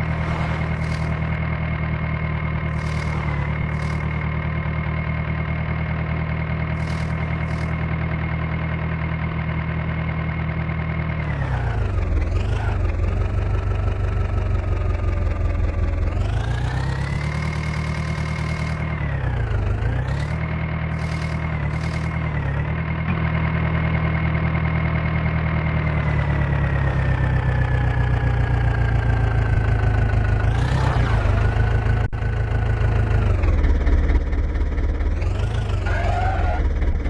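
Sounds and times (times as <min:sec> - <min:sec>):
diesel engine under load: 0:00.0 - 0:37.0.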